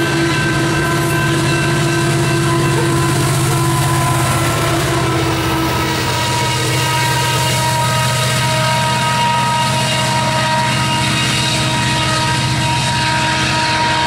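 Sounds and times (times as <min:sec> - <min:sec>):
diesel locomotive engine droning: 0:00.0 - 0:14.0.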